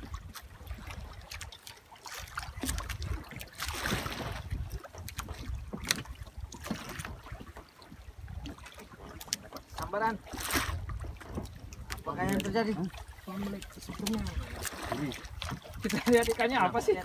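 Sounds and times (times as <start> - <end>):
wind rumbling on microphone: 0.0 - 1.6, 2.2 - 17.0
water sloshing against boat hull: 0.0 - 17.0.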